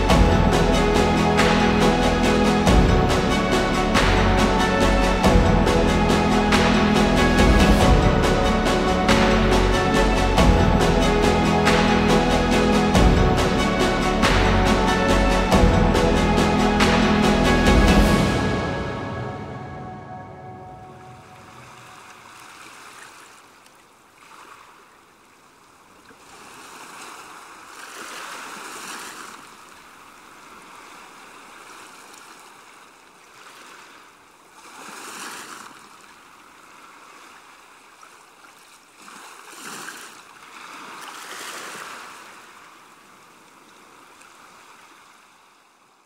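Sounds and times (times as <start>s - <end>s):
waves washing in: 0.0s - 45.8s.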